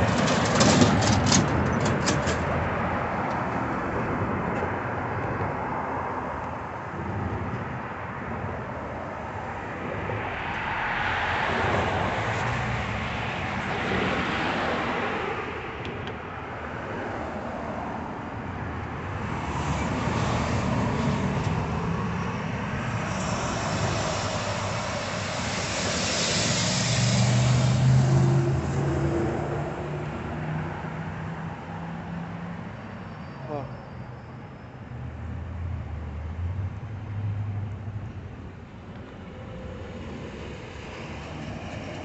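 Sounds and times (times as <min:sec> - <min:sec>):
cars driving past: 0:00.0 - 0:42.0.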